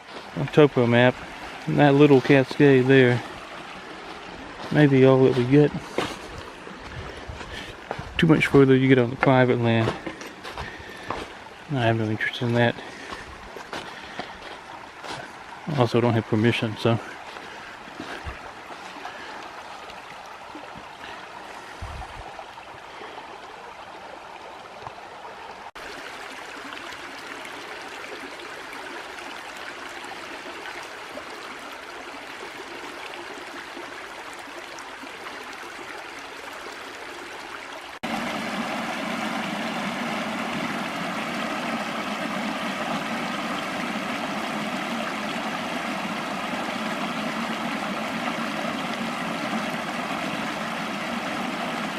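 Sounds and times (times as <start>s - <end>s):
creek water trickling over cascades: 0.0s - 51.9s.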